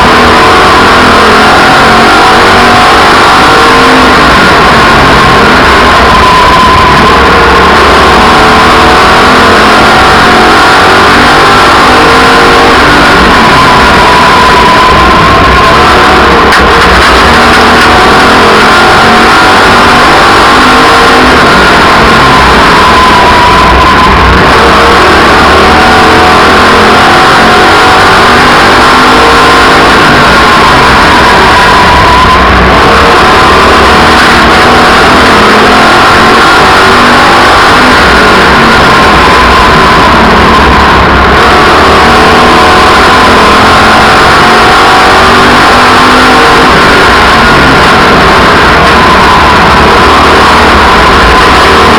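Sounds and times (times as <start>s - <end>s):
race car engines: 0.0s - 51.9s.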